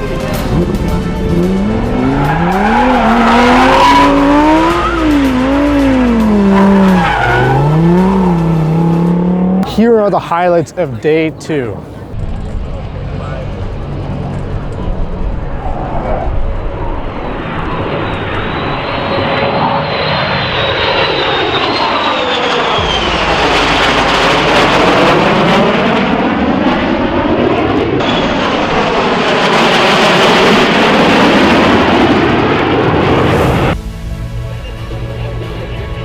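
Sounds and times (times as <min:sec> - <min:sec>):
jet engine roar passing: 0:00.0 - 0:34.3.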